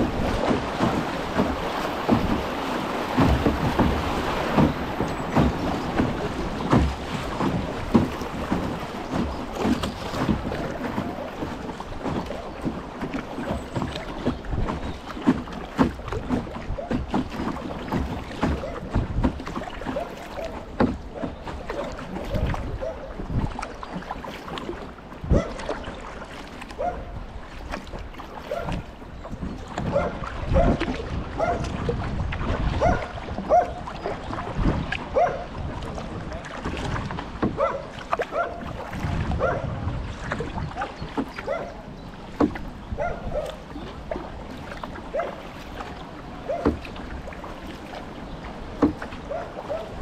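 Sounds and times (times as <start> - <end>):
paddle pulling through water: 0.0 - 50.0
water splashes: 0.0 - 50.0.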